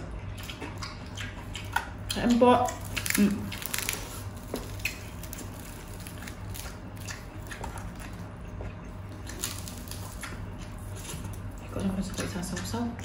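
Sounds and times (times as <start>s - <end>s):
chewing: 0.0s - 13.0s
low steady hum: 0.0s - 13.0s
crispy pork skin crunching: 0.2s - 13.0s.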